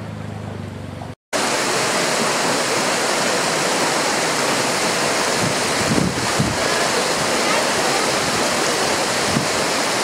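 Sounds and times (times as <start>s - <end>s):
water rushing over weir: 1.4s - 10.0s.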